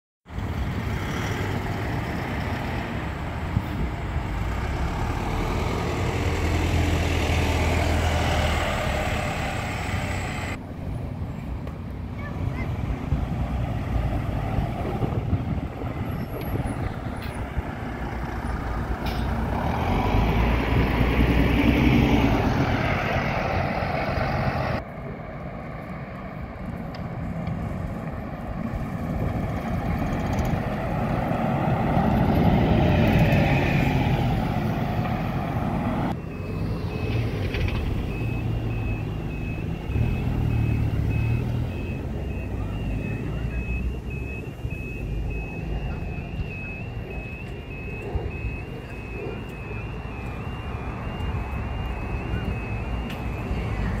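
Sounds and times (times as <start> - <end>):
diesel buses driving by: 0.3 - 54.0.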